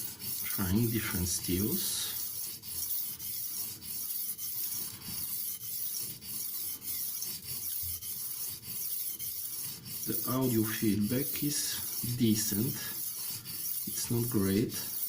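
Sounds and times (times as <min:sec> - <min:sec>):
knife scraping on whetstone: 0:00.0 - 0:15.0.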